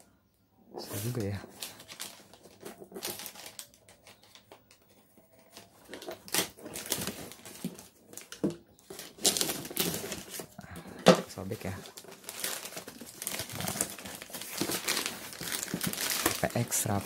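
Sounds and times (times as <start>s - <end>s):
plastic wrapping crinkling: 0.8s - 17.0s.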